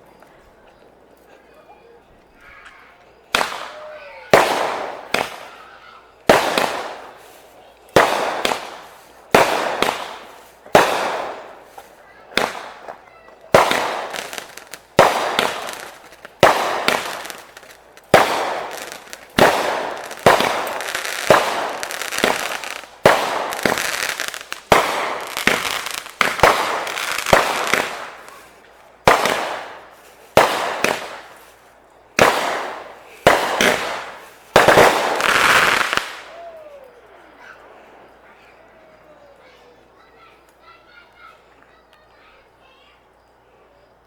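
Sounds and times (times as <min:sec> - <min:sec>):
fireworks bangs: 0:02.3 - 0:41.5.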